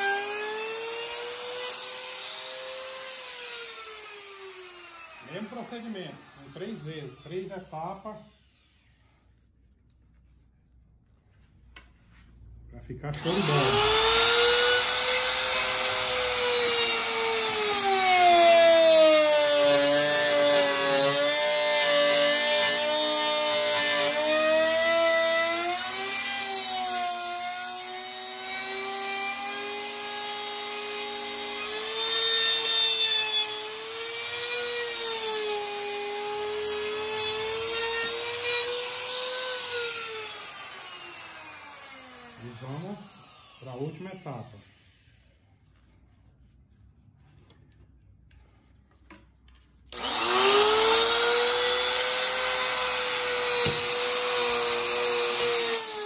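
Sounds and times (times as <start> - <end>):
router cutting wood: 0.0 - 9.0, 13.1 - 45.3, 49.9 - 56.0.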